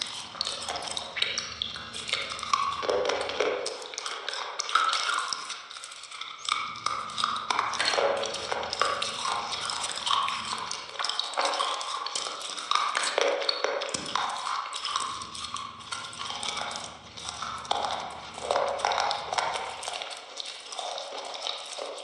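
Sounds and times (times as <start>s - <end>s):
lip smacks and mouth clicks: 0.0s - 22.0s
wet chewing: 0.0s - 22.0s.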